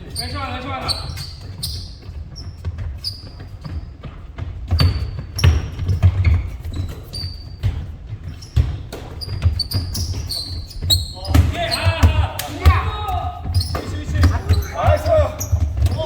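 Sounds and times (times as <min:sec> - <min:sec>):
basketballs bouncing on court: 0:00.0 - 0:16.0
sneakers squeaking: 0:00.0 - 0:16.0.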